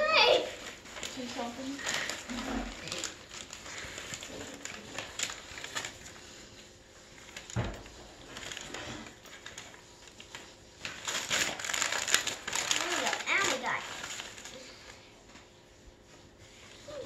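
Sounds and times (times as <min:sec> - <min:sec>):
wrapping paper rustling: 0:00.0 - 0:17.0.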